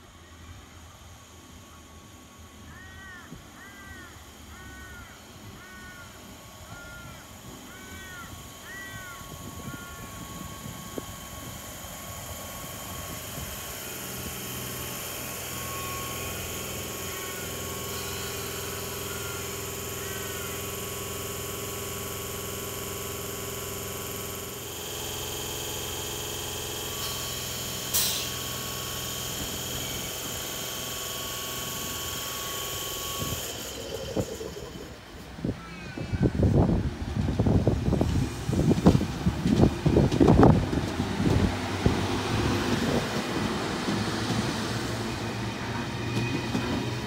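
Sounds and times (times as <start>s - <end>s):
electric train humming and whining: 0.0s - 47.0s.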